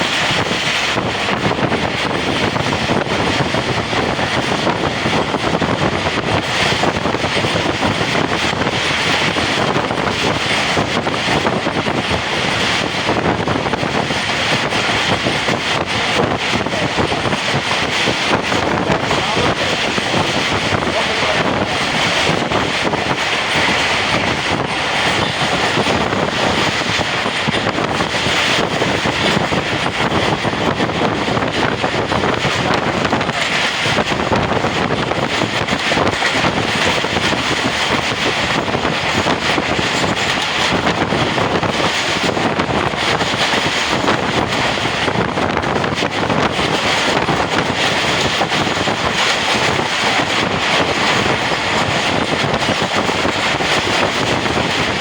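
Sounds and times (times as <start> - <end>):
train wheel and track noise: 0.0 - 55.0
wind on microphone: 0.0 - 55.0.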